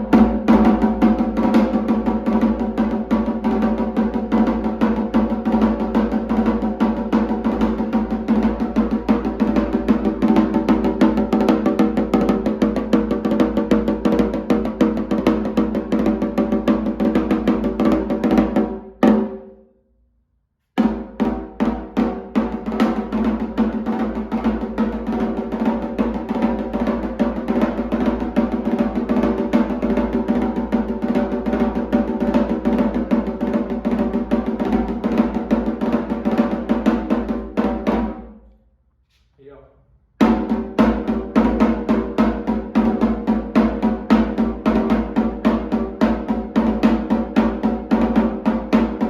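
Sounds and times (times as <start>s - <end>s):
hand drum playing quick rhythm: 0.0s - 19.4s, 20.8s - 38.3s, 40.2s - 49.0s.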